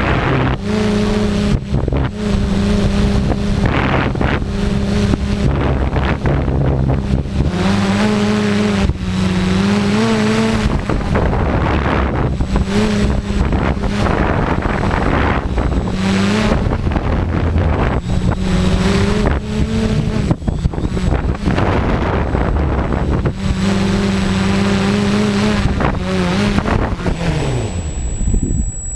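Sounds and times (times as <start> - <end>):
quadcopter motors whining: 0.0 - 28.9
wind buffeting microphone: 0.0 - 28.9.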